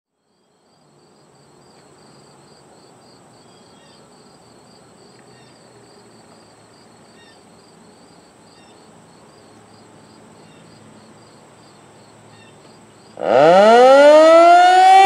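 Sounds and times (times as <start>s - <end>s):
insects chirping: 0.2s - 13.2s.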